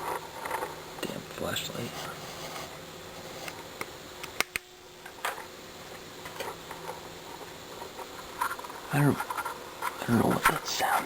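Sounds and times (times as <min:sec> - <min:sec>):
faint steady hum and hiss: 0:00.0 - 0:11.0.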